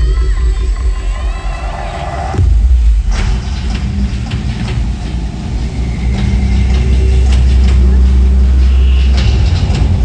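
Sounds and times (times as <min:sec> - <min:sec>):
deep rumbling drone: 0:00.0 - 0:10.0.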